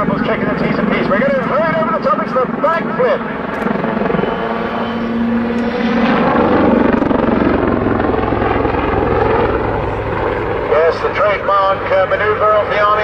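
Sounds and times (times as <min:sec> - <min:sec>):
helicopter rotor and turbine: 0:00.0 - 0:13.0
turbine whine: 0:00.0 - 0:13.0.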